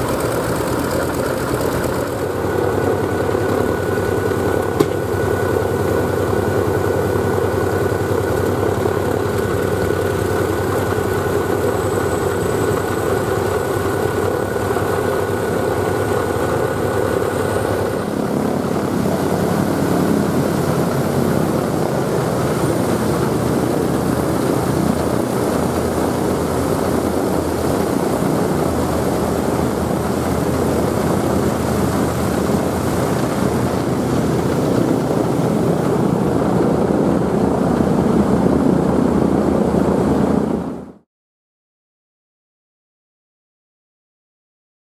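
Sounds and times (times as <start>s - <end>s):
radial aircraft engines droning: 0.0s - 41.0s.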